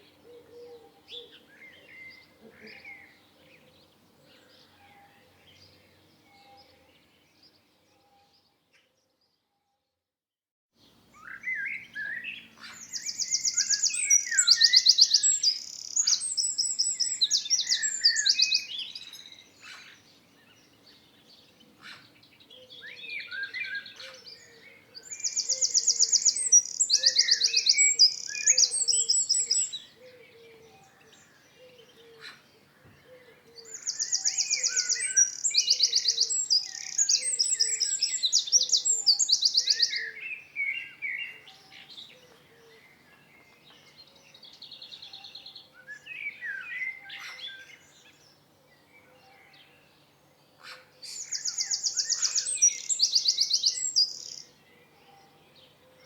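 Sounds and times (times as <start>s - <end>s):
songbird singing trills: 0.0s - 8.5s, 11.2s - 56.0s.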